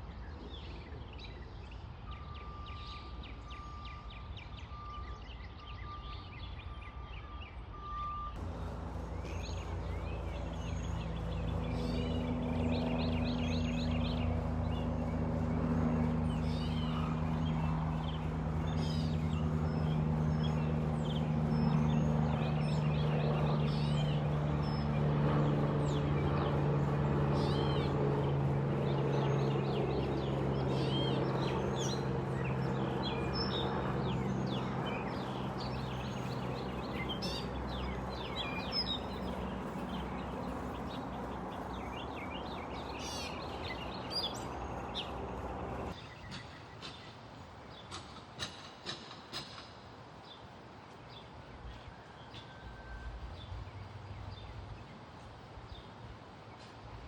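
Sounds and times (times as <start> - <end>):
aircraft engine drone: 0.0 - 47.0
birds chirping: 0.2 - 50.4.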